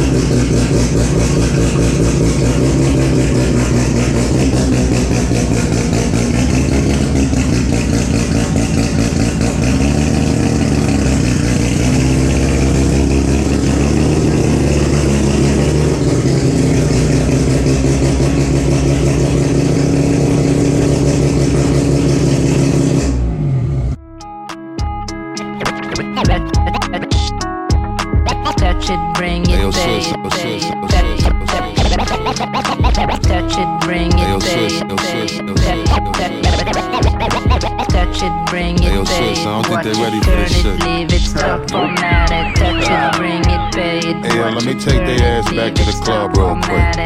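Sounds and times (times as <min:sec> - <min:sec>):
rotary engine revving: 0:00.0 - 0:24.0, 0:33.0 - 0:47.0.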